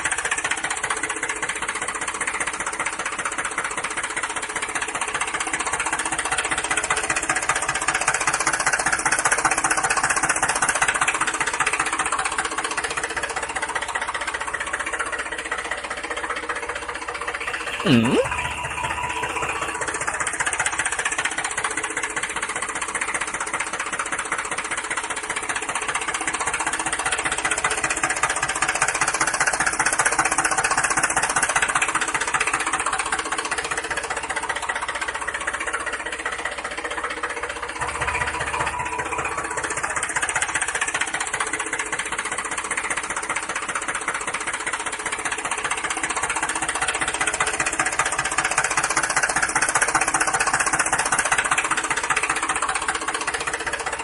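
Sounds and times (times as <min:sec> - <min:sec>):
small engine chugging: 0:00.0 - 0:54.0.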